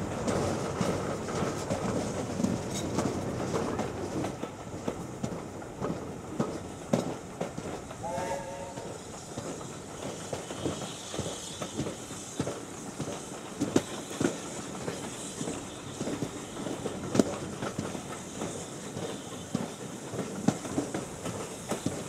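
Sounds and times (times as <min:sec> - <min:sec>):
wheels clicking and knocking: 0:00.0 - 0:08.0, 0:08.8 - 0:22.0
train carriage rumble and hiss: 0:00.0 - 0:22.0.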